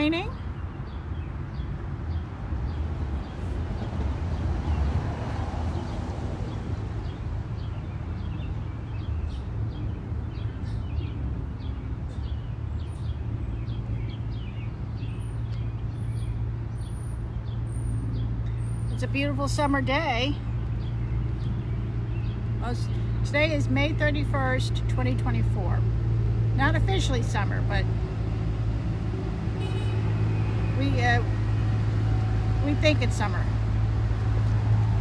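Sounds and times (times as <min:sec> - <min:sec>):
small birds chirping: 0:00.0 - 0:34.6
low traffic rumble: 0:00.0 - 0:35.0
vehicle passing: 0:00.0 - 0:35.0.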